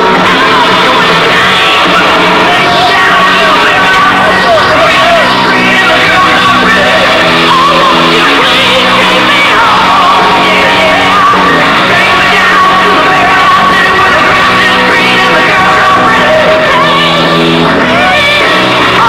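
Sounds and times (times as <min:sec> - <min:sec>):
loud music with singing: 0:00.0 - 0:19.0.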